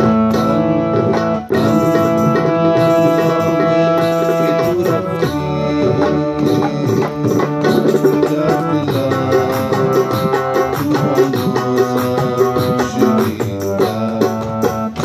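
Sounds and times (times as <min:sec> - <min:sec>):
drum beat: 0:00.0 - 0:15.0
harmonium playing melody: 0:00.0 - 0:15.0.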